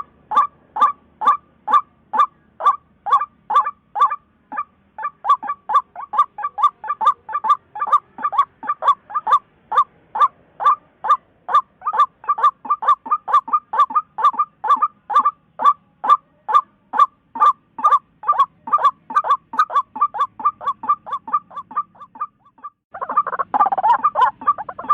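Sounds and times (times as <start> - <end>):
overlapping bird calls: 0.0 - 24.9
waterhen calling clipped notes: 0.0 - 24.9.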